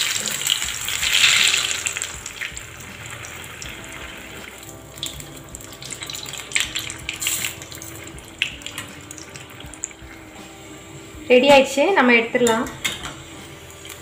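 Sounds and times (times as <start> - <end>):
food deep-frying in hot oil: 0.0 - 10.8, 12.8 - 14.0.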